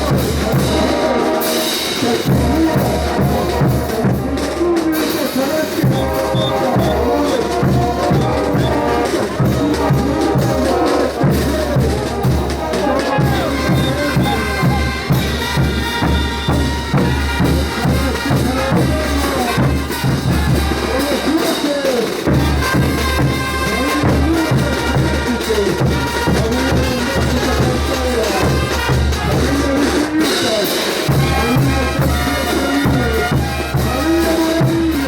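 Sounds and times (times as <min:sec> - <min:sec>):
bass drum beat: 0:00.0 - 0:35.0
brass melody: 0:00.0 - 0:35.0.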